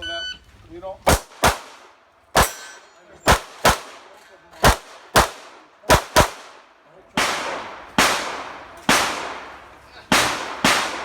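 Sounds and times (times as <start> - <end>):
pistol shots with echo: 1.1 - 11.0.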